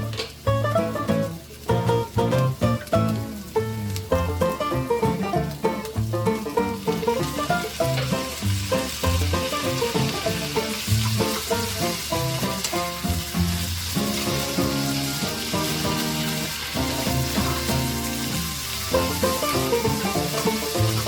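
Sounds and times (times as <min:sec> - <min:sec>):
food sizzling in a pan: 0:00.0 - 0:21.0
plucked background music: 0:00.0 - 0:21.0.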